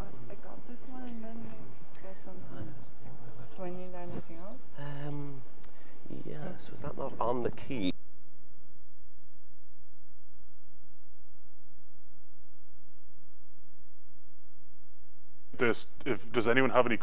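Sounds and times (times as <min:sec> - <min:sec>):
electrical mains hum: 0:00.0 - 0:11.1, 0:13.5 - 0:17.0.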